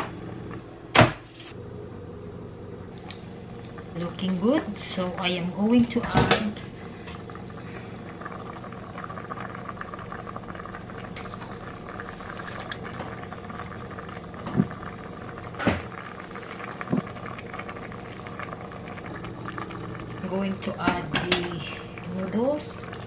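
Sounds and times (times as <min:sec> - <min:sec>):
steady hum: 0:00.0 - 0:23.0
sauce bubbling in a pot: 0:03.0 - 0:23.0.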